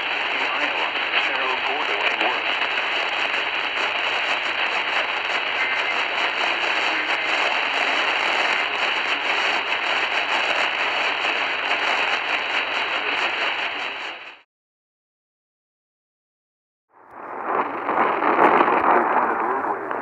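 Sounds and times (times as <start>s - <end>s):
radio static hiss and crackle: 0.0s - 14.4s, 17.0s - 20.0s.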